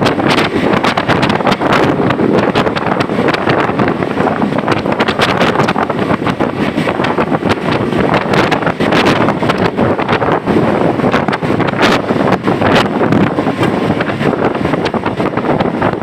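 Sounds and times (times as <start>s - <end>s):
rain and wind crackling on microphone: 0.0s - 16.0s
vehicle road noise: 0.0s - 16.0s.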